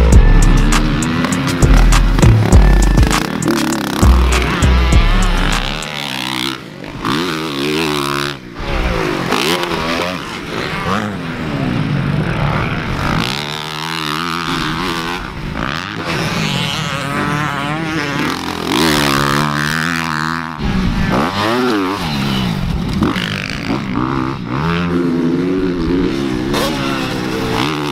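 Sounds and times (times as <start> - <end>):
dirt bike engines revving: 0.0 - 27.9.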